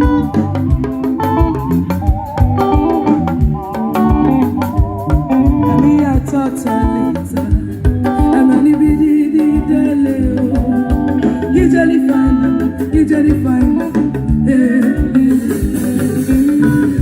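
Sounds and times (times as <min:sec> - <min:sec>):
live band music: 0:00.0 - 0:17.0
person singing: 0:00.0 - 0:17.0.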